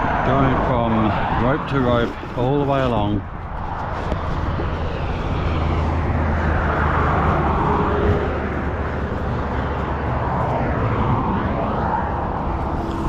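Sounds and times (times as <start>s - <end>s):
truck engine running: 1.4s - 13.0s.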